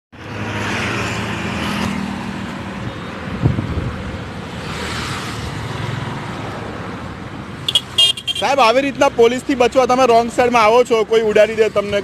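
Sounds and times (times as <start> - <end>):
motorbike engines passing: 0.2 - 12.0.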